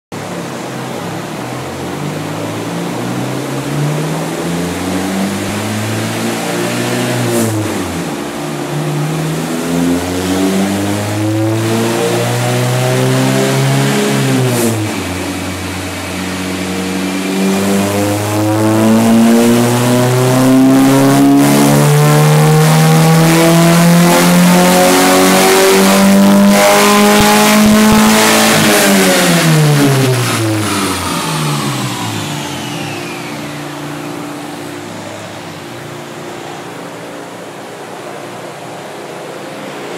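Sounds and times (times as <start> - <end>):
car engine at full throttle: 0.1 - 39.9.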